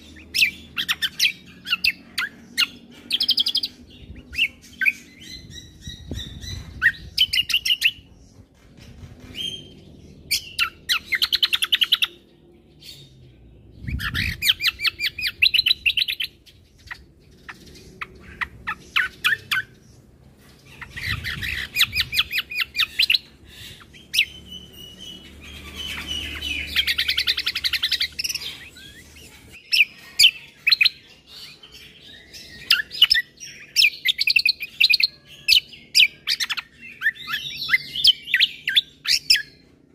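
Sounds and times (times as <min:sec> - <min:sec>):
bird chirping and trilling: 0:00.0 - 0:39.8.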